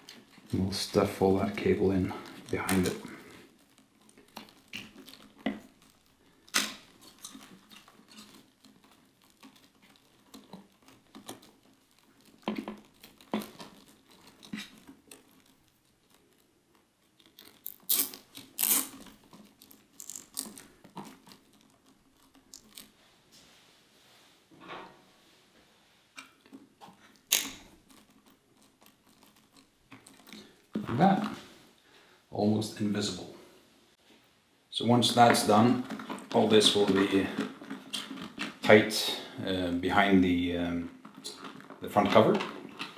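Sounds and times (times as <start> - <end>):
wiring rustling: 0.0 - 23.5, 26.1 - 31.8, 34.8 - 42.9.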